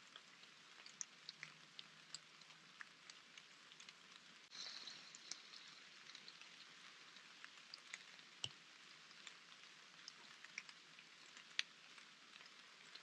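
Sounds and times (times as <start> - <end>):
faint steady hiss: 0.0 - 13.0
rain drips ticking: 0.0 - 13.0.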